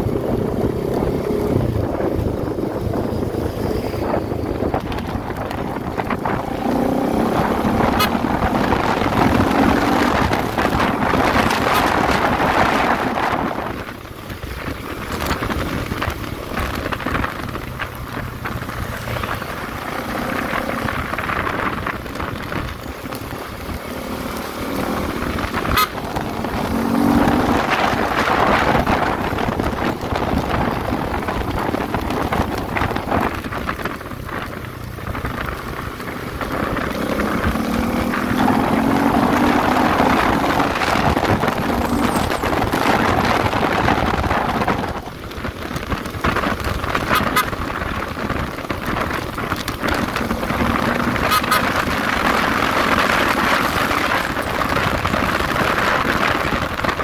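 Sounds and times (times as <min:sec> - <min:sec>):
motorcycle engine accelerating: 0:00.0 - 0:57.0
wind rushing: 0:00.0 - 0:57.0.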